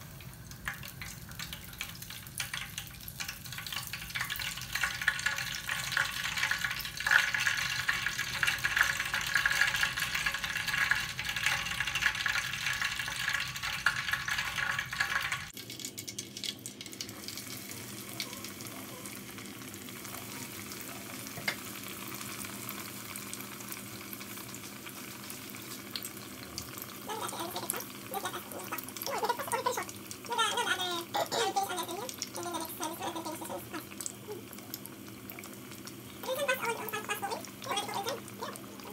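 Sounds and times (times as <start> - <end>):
oil sizzling while deep-frying: 0.0 - 38.9.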